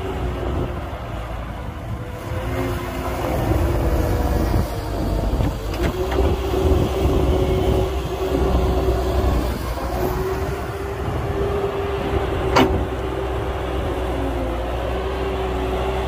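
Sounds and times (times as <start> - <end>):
constant machinery whine: 0.0 - 16.0
diesel engine low rumble: 0.0 - 16.0.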